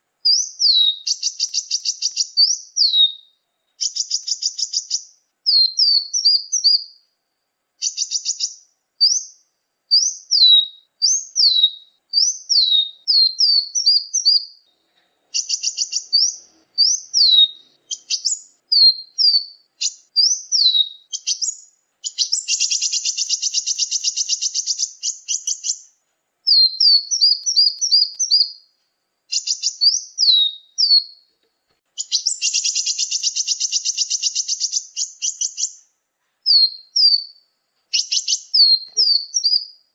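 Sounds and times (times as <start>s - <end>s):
recorded songbird chirps: 0.0s - 39.9s
bird rapid trill: 0.2s - 7.0s, 7.8s - 28.7s, 29.3s - 31.3s, 32.0s - 39.8s.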